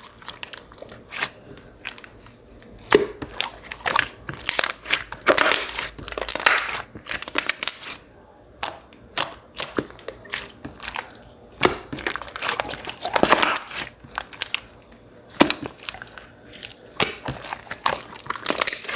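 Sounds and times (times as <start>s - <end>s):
slime squished by hand: 0.0s - 8.0s, 8.6s - 18.9s.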